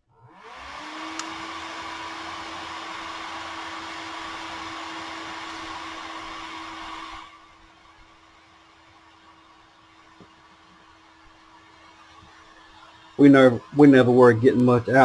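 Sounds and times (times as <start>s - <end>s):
charger cooling fan whirring: 0.1s - 15.0s.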